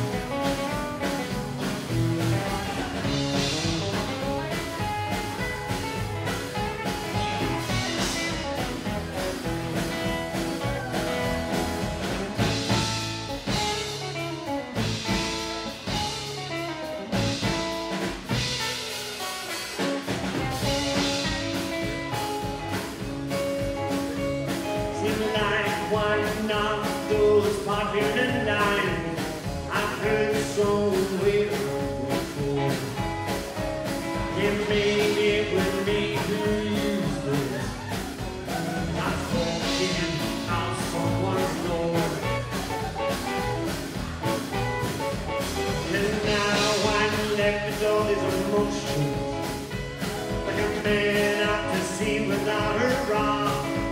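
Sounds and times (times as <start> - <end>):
guitar lead line: 0.0 - 53.9
steady drum beat: 0.0 - 53.9.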